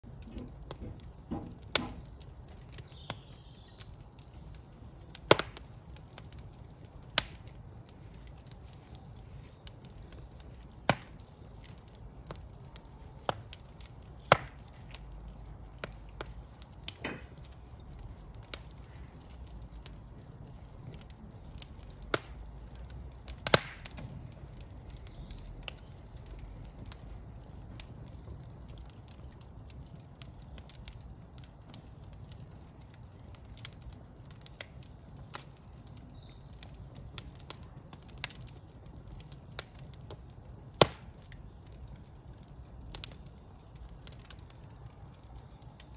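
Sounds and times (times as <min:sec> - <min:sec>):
wood popping and snapping: 0:00.0 - 0:04.4, 0:05.0 - 0:45.9
fire burning: 0:00.0 - 0:45.9.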